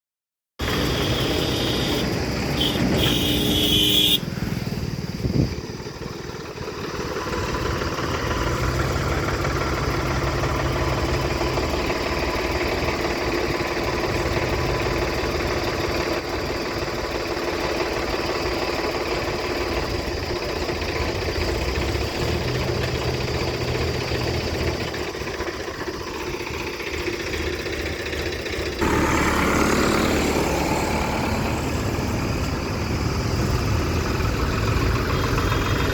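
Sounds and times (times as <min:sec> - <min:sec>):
tractor engines idling: 0:00.6 - 0:35.9.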